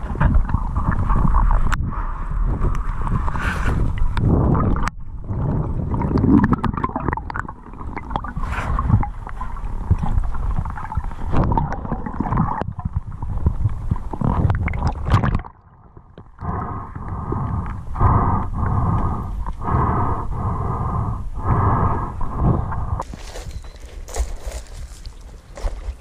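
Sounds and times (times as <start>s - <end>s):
muffled underwater rumbling: 0.0s - 23.3s.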